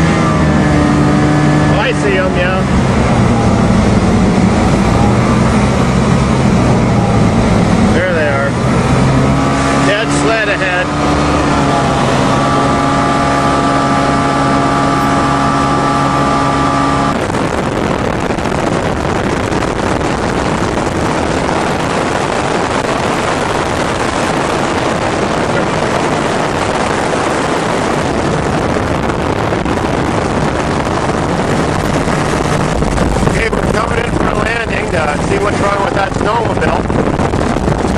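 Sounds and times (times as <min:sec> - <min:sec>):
airplane engine droning: 0:00.0 - 0:37.9
even rushing noise: 0:00.0 - 0:37.9.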